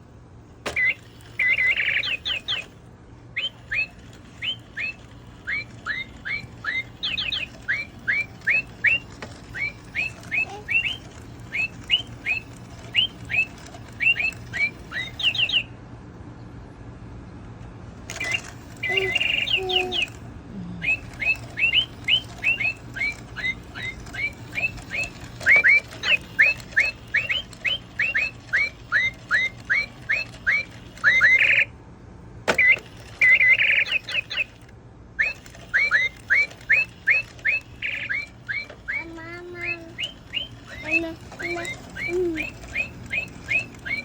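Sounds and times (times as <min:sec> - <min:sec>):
bird chirping: 0:00.7 - 0:02.8, 0:03.4 - 0:15.8, 0:18.1 - 0:20.2, 0:20.8 - 0:31.7, 0:32.5 - 0:34.6, 0:35.2 - 0:44.0.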